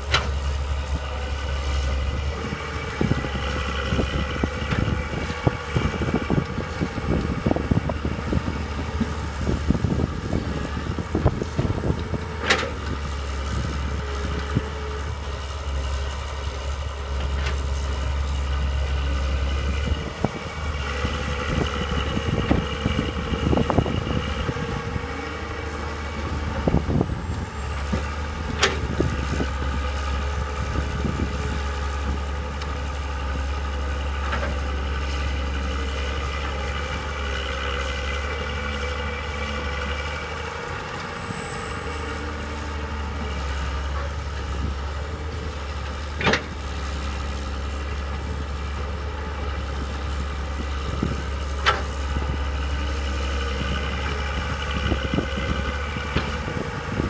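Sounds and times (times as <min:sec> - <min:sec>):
excavator diesel engines running: 0:00.0 - 0:57.0.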